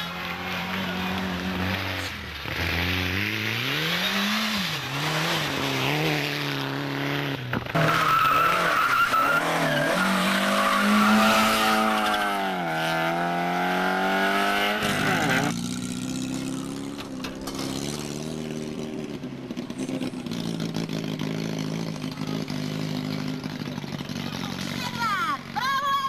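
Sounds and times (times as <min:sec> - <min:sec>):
rally car engine revving: 0:00.0 - 0:25.6
tyres skidding: 0:00.0 - 0:26.0.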